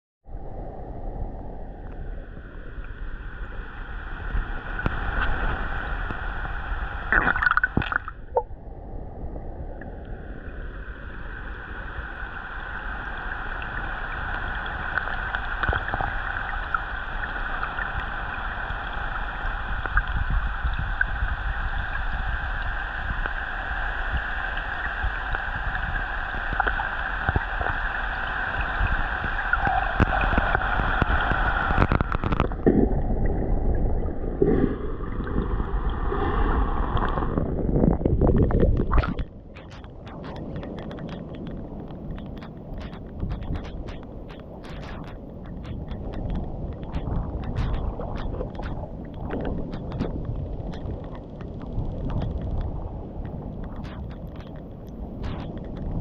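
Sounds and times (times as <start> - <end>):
rushing water: 1.8 - 8.5, 9.6 - 56.0.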